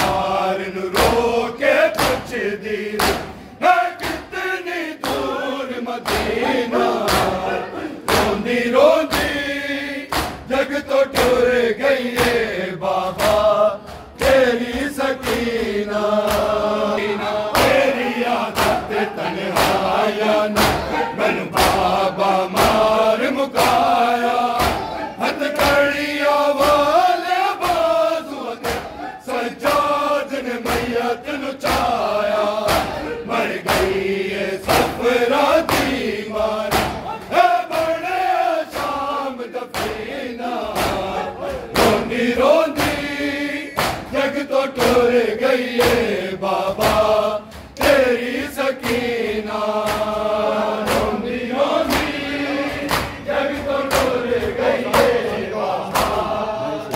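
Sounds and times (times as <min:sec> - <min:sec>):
men chanting a lament: 0:00.0 - 0:56.9
hands slapping chests: 0:00.1 - 0:05.4, 0:06.0 - 0:30.0, 0:30.6 - 0:56.3.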